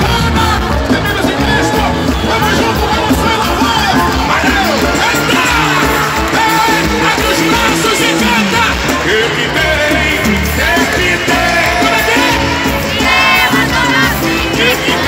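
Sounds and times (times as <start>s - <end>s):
live worship band music: 0.0s - 15.0s
several voices singing: 0.0s - 15.0s
steady bass: 0.0s - 15.0s.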